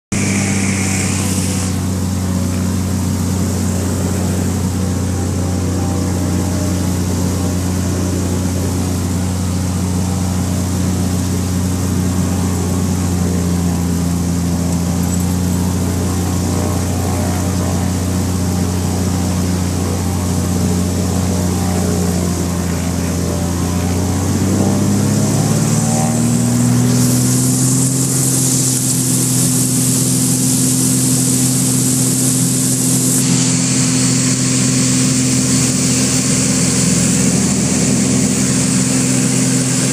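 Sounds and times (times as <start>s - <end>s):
propeller aircraft engine: 0.0s - 39.9s.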